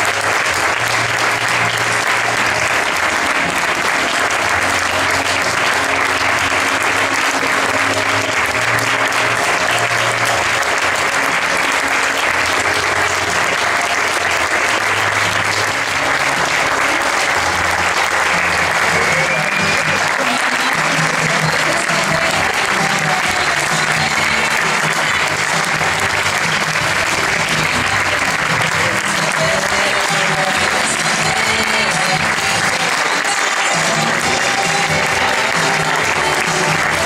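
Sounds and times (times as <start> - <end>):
audience applauding: 0.0 - 37.0
music playing: 0.0 - 37.0.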